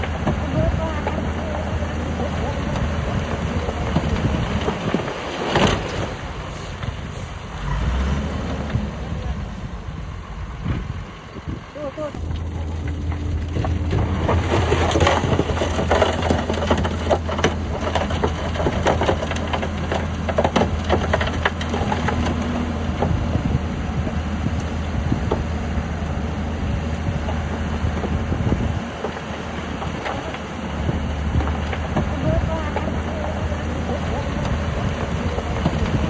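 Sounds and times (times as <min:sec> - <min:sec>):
diesel engine running: 0:00.0 - 0:36.0
rock and earth crunching: 0:00.0 - 0:36.0.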